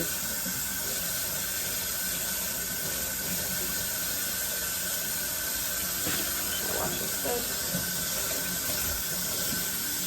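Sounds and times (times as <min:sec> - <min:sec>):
tap running: 0:00.0 - 0:10.0.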